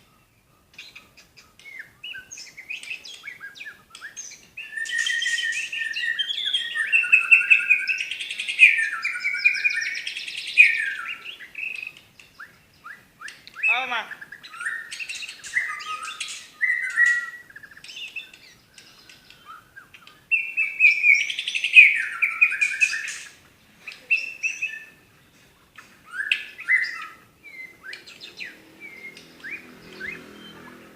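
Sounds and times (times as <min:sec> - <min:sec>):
bird singing whistles and trills: 0:00.0 - 0:25.0, 0:26.0 - 0:30.9.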